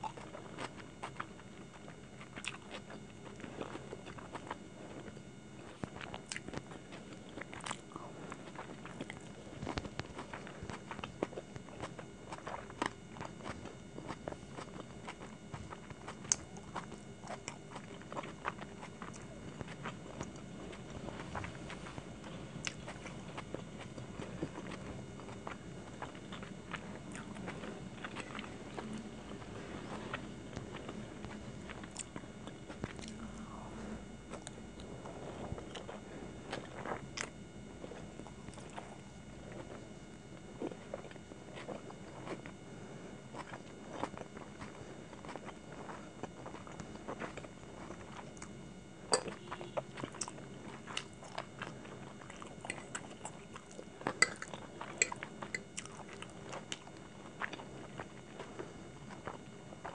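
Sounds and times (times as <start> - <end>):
chewing with wet mouth sounds: 0.0 - 59.9.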